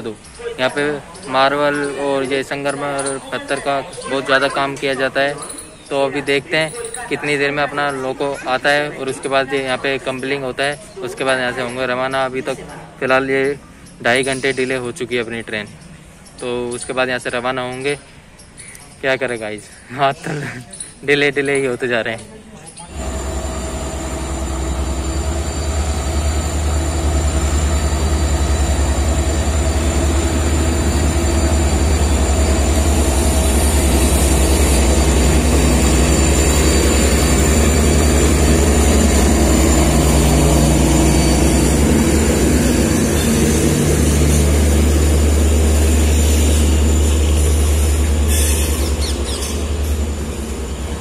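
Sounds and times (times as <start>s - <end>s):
diesel locomotive engine drone: 0.0s - 18.6s, 22.8s - 51.0s.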